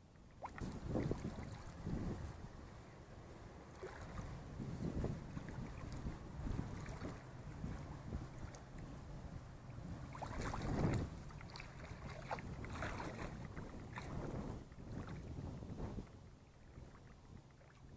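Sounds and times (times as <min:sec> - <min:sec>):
small waves lapping and splashing: 0:00.0 - 0:17.9
wind buffeting microphone: 0:00.4 - 0:17.9.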